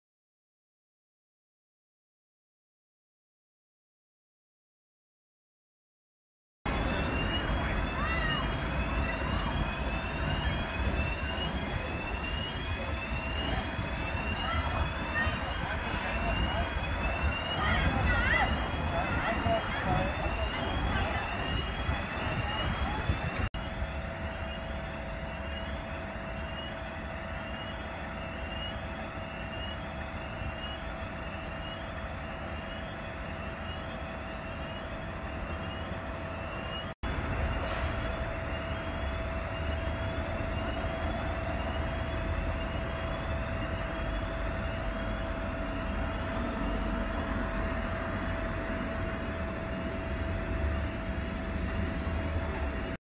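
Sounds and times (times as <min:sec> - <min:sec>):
fire engines idling: 0:06.7 - 0:53.0.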